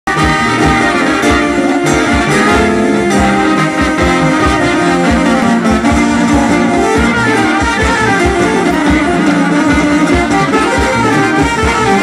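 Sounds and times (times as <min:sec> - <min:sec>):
folk dance music: 0:00.1 - 0:12.0
quick steady drum beat: 0:00.1 - 0:12.0.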